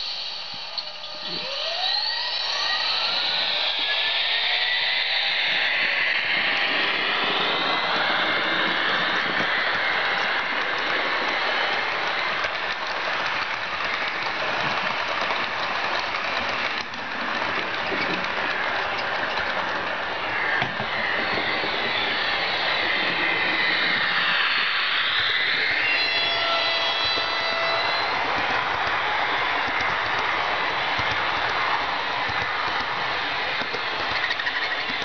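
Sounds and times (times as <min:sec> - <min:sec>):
electric locomotive sound from speaker: 0:00.0 - 0:35.0
model coaches rolling on track: 0:00.0 - 0:35.0.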